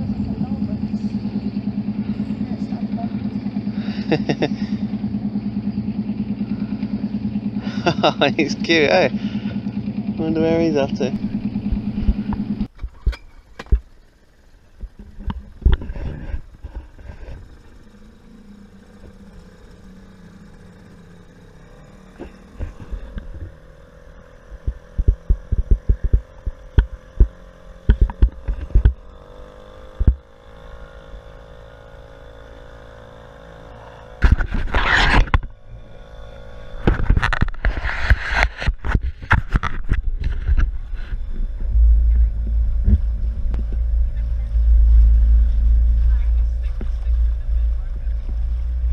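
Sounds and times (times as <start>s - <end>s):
outboard motor droning: 0.0s - 48.9s.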